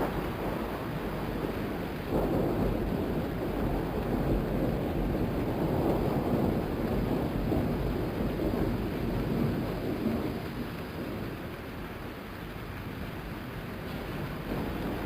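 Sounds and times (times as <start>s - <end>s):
rolling thunder: 0.0s - 12.1s, 12.9s - 15.0s
steady rain: 0.0s - 15.0s.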